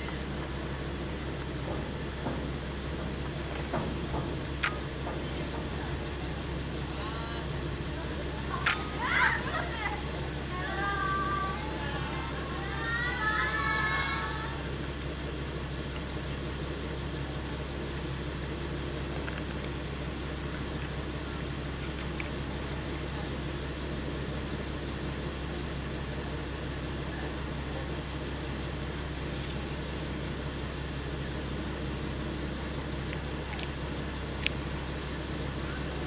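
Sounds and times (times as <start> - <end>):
diesel railcar idling: 0.0 - 36.0.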